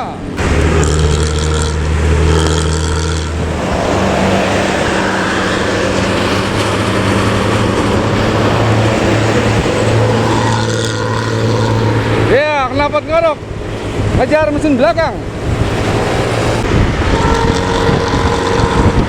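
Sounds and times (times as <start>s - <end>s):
road and wind noise: 0.0s - 19.0s
bus diesel engine running hard: 0.2s - 14.2s, 15.0s - 19.0s.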